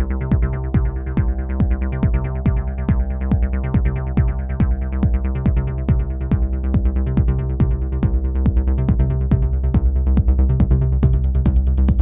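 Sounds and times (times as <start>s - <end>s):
drum-machine kick: 0.0s - 12.0s.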